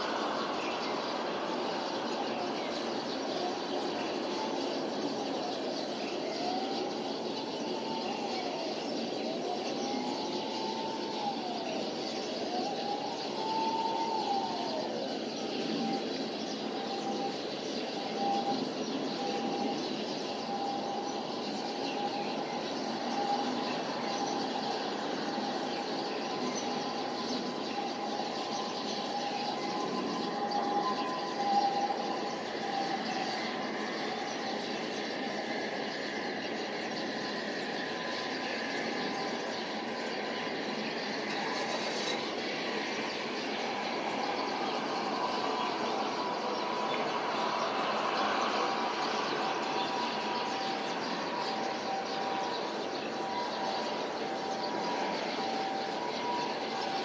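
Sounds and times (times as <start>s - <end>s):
city noise: 0.0s - 57.0s
siren wailing: 0.0s - 57.0s.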